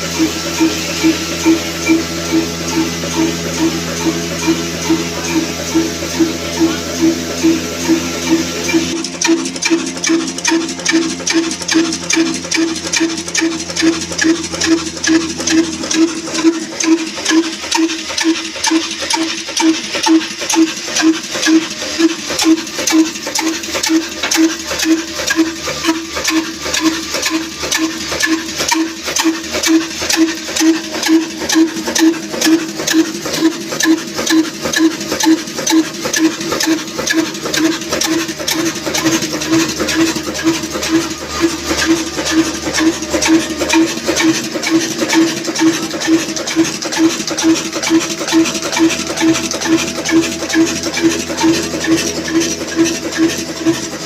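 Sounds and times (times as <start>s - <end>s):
diesel engine running slowly: 0.0s - 54.0s.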